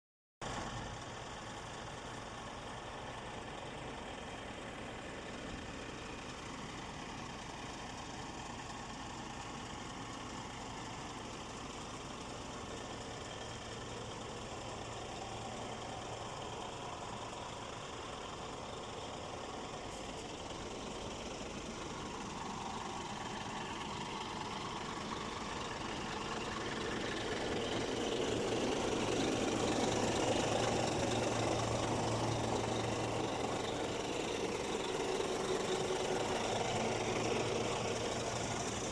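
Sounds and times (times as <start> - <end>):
truck diesel engine running: 0.4 - 38.9.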